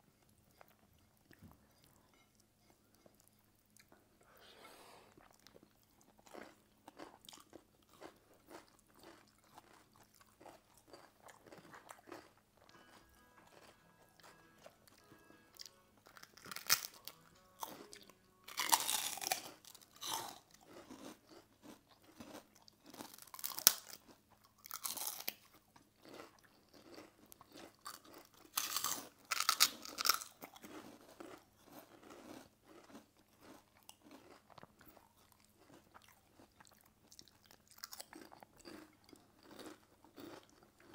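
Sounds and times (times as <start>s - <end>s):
people chewing food: 0.0s - 40.9s
crisp food crunching: 5.2s - 40.9s.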